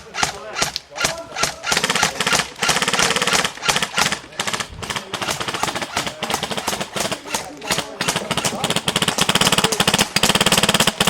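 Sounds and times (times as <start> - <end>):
airsoft guns firing bursts: 0.0 - 11.0.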